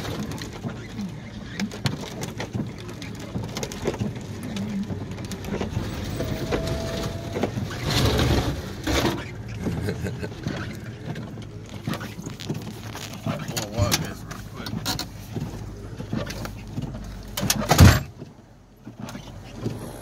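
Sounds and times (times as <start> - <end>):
knocks and crunches: 0.0 - 19.8
branches scraping windshield: 0.0 - 20.0
engine and road rumble: 0.0 - 20.0.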